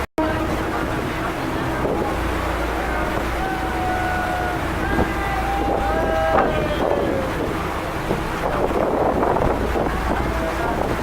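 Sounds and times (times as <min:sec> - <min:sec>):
boat engine rumbling: 0:00.0 - 0:11.0
wind buffeting microphone: 0:00.0 - 0:11.0.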